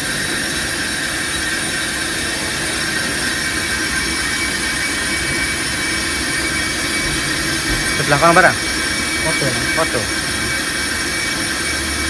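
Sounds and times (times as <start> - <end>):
brake lathe scraping and squealing: 0.0 - 12.0.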